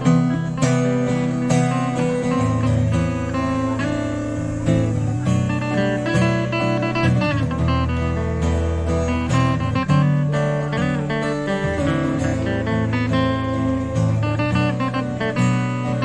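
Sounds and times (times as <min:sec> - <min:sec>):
acoustic guitars playing: 0:00.0 - 0:16.0.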